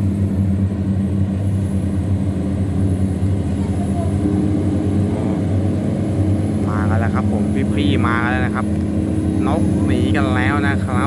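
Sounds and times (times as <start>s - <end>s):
tugboat engine drone: 0.0s - 11.0s.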